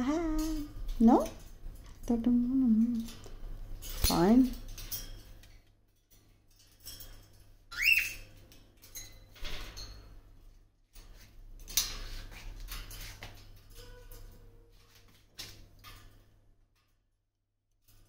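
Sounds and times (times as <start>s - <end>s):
light clicks and rattles: 0.0s - 17.1s.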